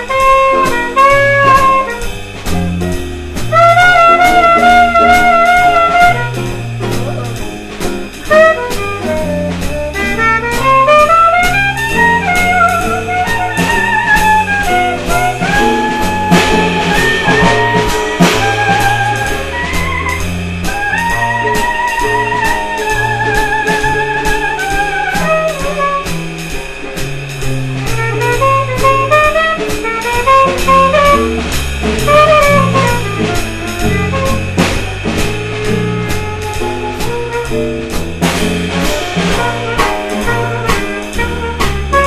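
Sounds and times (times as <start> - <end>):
acoustic guitar: 0.0 - 42.0
bass notes: 0.0 - 42.0
drum kit with cymbals: 0.0 - 42.0
horn playing sliding melody: 0.0 - 42.0.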